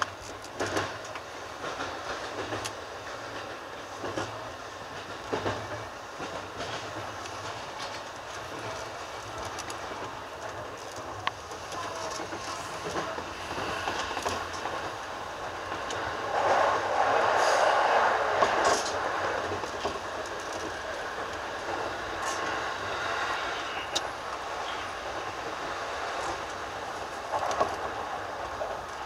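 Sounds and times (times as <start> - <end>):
train running rumble: 0.0 - 29.0
wheels clicking over rail joints: 0.0 - 29.0.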